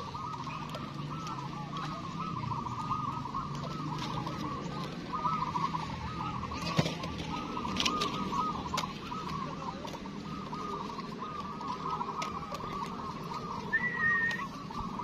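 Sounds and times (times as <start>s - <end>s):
doves cooing: 0.0s - 15.0s
low steady murmur: 0.0s - 15.0s.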